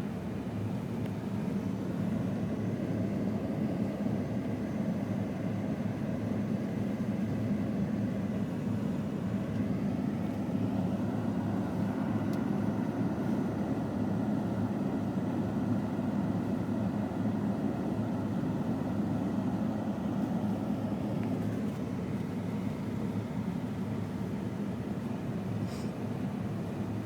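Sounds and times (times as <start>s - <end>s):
engine and road noise in cab: 0.0s - 27.0s.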